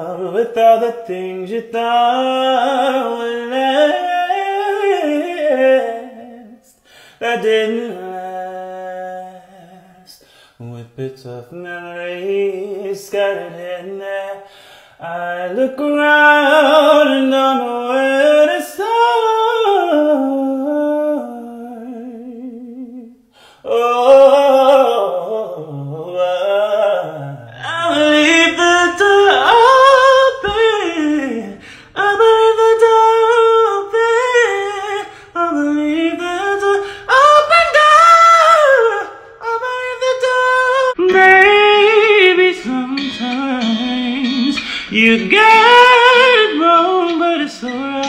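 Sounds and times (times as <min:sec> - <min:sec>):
person singing: 0:00.0 - 0:48.0.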